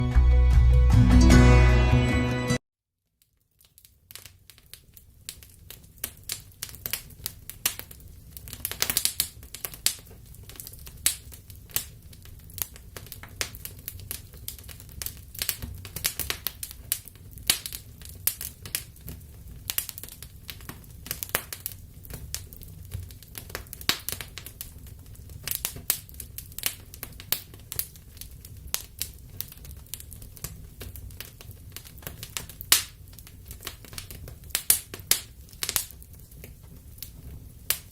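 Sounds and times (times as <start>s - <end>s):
logs crackling and popping: 3.3s - 37.9s
low rumble of flames: 4.0s - 37.9s.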